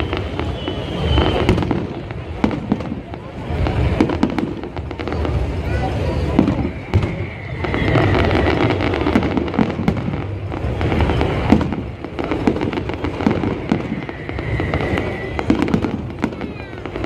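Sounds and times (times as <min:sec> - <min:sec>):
firework whistle: 0:00.0 - 0:17.0
fireworks booming: 0:00.0 - 0:17.0
fireworks cracks and crackling: 0:00.0 - 0:17.0.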